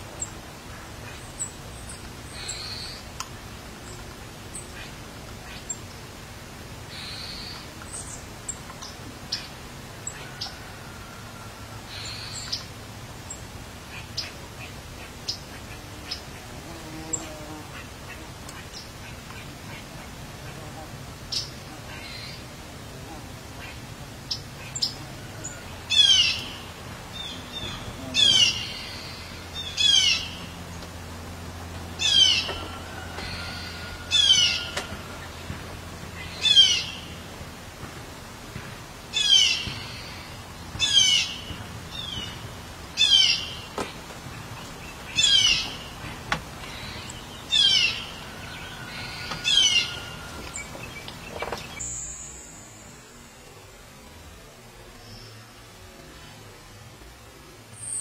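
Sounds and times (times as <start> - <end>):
songbird calling: 0.2 - 6.0, 6.9 - 37.2, 39.1 - 53.3.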